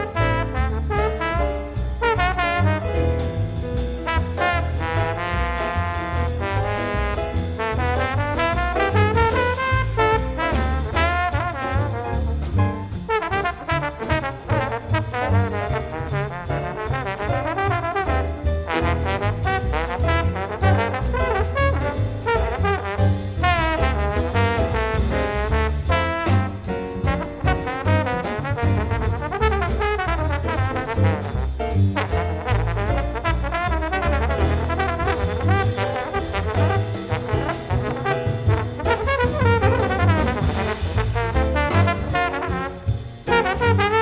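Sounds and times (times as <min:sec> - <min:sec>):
bass: 0:00.0 - 0:44.0
drums keeping a beat: 0:00.0 - 0:44.0
piano: 0:00.0 - 0:44.0
slide trombone solo: 0:00.0 - 0:44.0.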